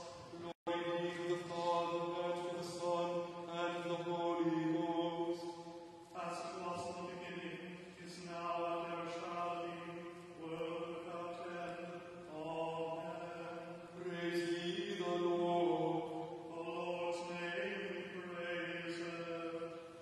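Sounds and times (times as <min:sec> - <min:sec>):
liturgical chant: 0:00.0 - 0:20.0.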